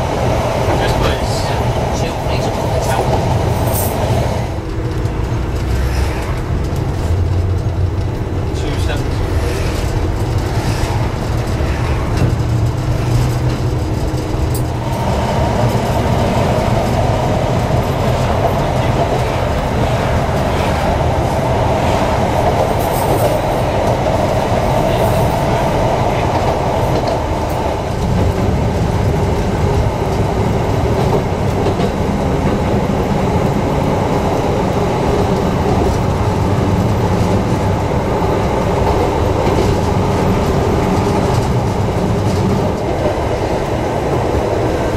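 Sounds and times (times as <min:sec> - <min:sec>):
tram wheels rumbling on rail: 0:00.0 - 0:44.9.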